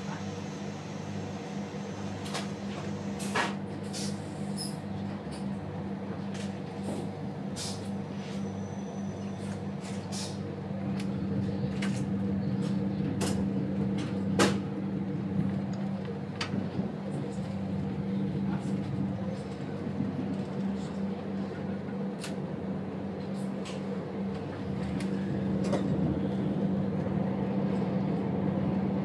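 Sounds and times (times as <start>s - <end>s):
train engine drone: 0.0s - 29.0s.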